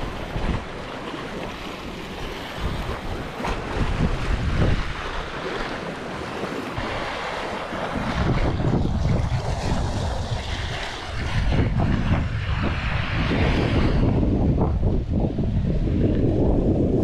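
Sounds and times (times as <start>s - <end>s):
choppy sea: 0.0s - 17.0s
wind buffeting microphone: 0.0s - 17.0s.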